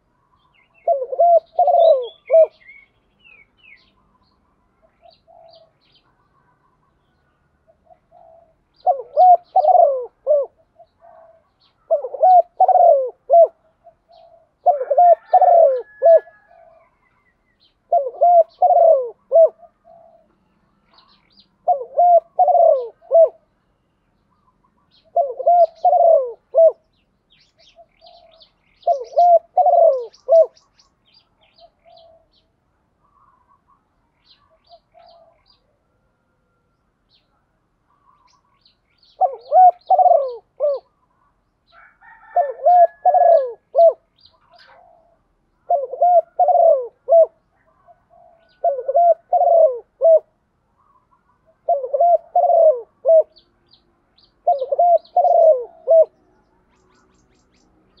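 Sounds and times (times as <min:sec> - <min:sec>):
dove cooing: 0:00.0 - 0:07.0, 0:07.6 - 0:17.0, 0:17.6 - 0:23.5, 0:24.3 - 0:27.0, 0:27.6 - 0:30.7, 0:31.4 - 0:36.3, 0:39.0 - 0:56.2
small birds chirping: 0:00.0 - 0:35.8, 0:37.0 - 0:58.0.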